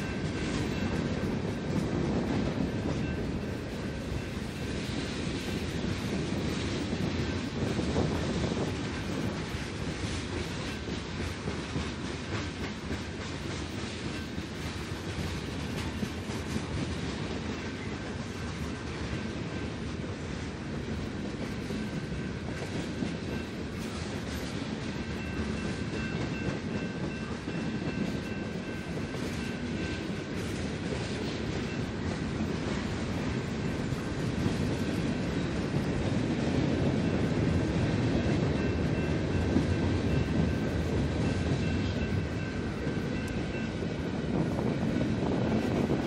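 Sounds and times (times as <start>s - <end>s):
clickety-clack over rail joints: 0.0s - 46.0s
train wheels rumbling on rails: 0.0s - 46.0s.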